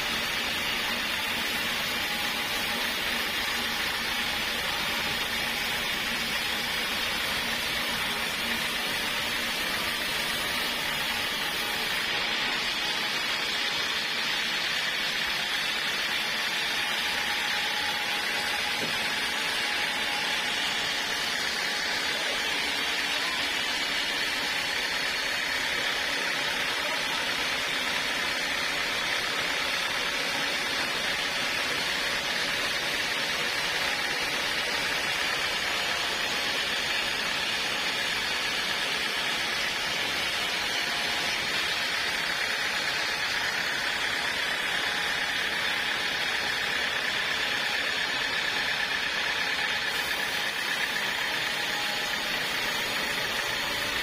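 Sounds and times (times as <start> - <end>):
sawmill machine whirring: 0.0 - 54.0.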